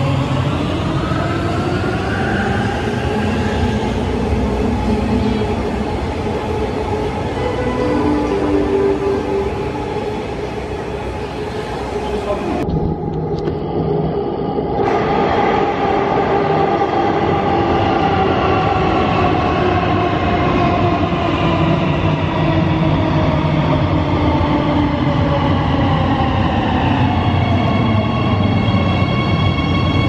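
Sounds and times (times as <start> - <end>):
metro train rolling: 0.0 - 30.0.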